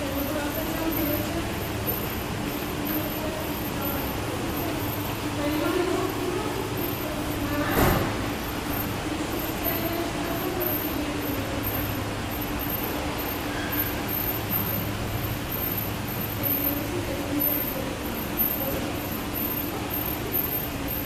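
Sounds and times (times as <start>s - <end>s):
elevator hum: 0.0s - 21.0s.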